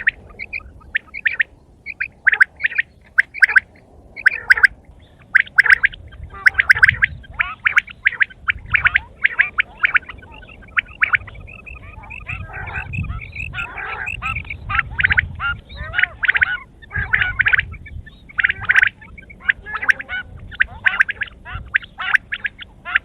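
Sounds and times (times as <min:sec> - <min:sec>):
quails calling: 0:00.0 - 0:23.0.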